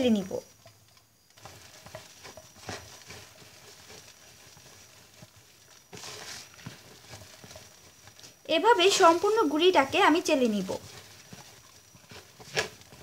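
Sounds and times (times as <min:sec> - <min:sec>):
flour scraping through mesh sieve: 0:01.4 - 0:13.0.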